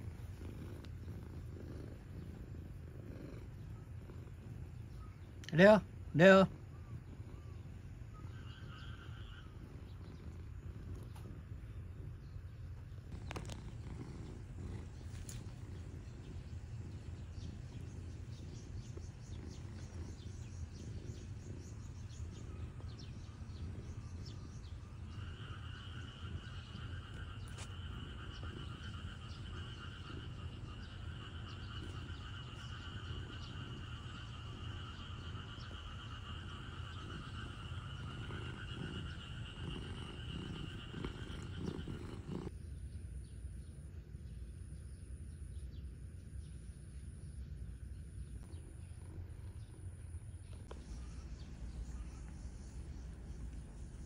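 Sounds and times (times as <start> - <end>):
insects or frogs calling: 0.0 - 54.0.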